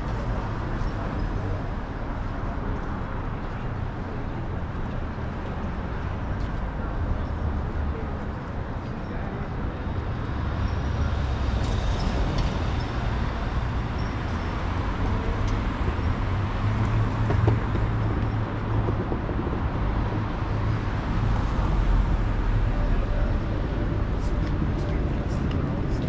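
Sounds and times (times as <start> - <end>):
city street traffic rumble: 0.0 - 26.0.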